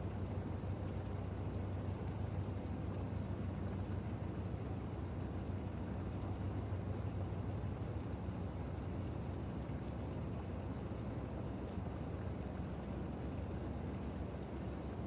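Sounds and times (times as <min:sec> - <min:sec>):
constant low hum: 0:00.0 - 0:15.0
soft wash of noise: 0:00.0 - 0:15.0.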